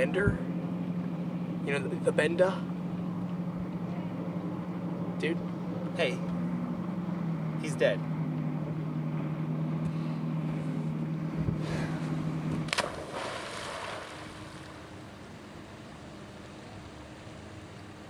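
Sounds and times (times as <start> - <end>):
boat motor humming: 0.0 - 18.0
water noise: 0.0 - 18.0
wind: 0.0 - 18.0.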